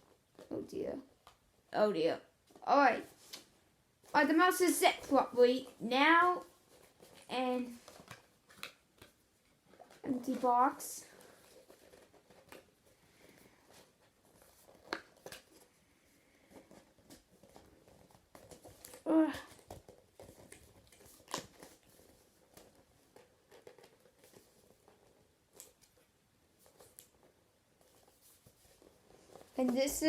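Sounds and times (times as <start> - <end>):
cardboard packaging rustling: 2.5 - 30.0.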